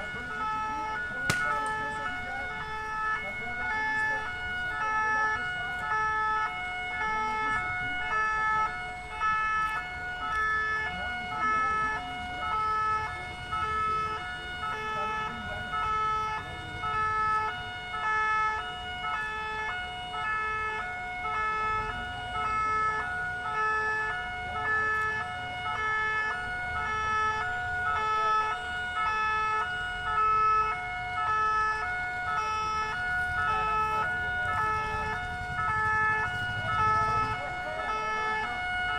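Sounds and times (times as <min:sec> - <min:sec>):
crowd and street noise: 0:00.0 - 0:38.9
two-tone emergency siren: 0:00.0 - 0:38.9.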